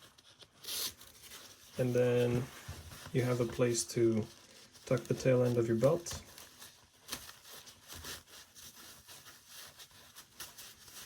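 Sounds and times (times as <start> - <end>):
belt rustling and rubbing: 0.0 - 11.0.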